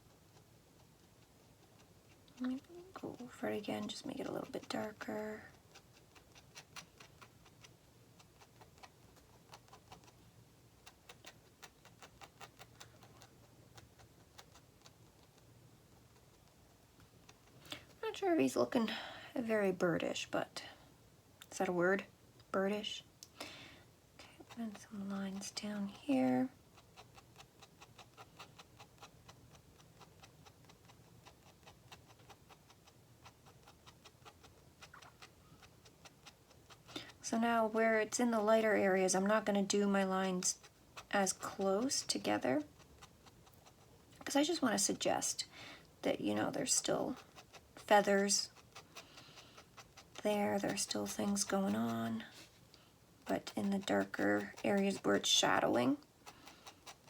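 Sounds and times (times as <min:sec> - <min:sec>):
pen nib ticking on paper: 0:00.0 - 0:18.5, 0:22.4 - 0:57.0.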